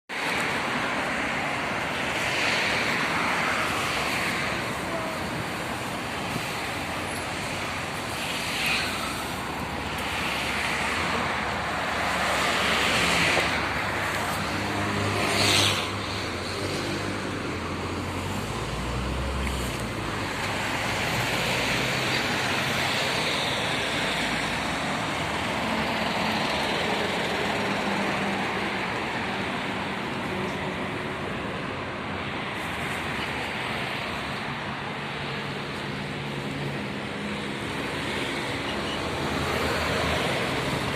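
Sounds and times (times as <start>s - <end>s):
cars passing: 0.1s - 40.9s.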